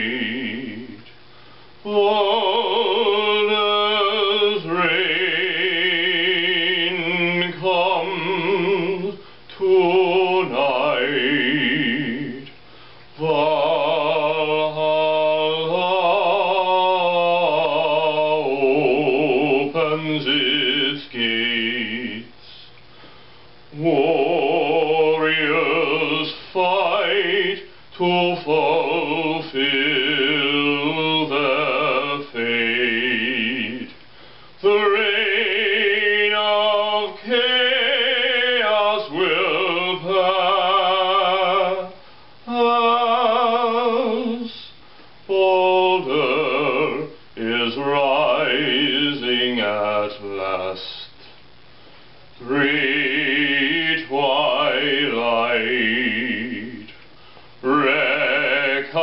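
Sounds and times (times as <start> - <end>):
man singing operatically: 0.0 - 1.1, 1.8 - 22.7, 23.7 - 34.0, 34.6 - 51.2, 52.4 - 57.0, 57.6 - 59.0.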